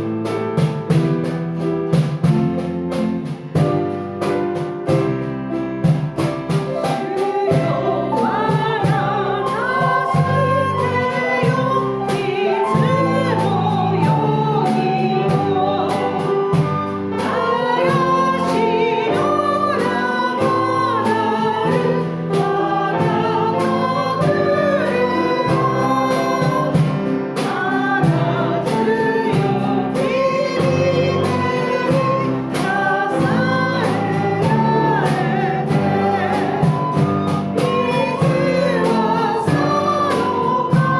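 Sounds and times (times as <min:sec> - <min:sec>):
instrumental accompaniment with beat: 0:00.0 - 0:40.9
voices singing a hymn: 0:00.0 - 0:40.9.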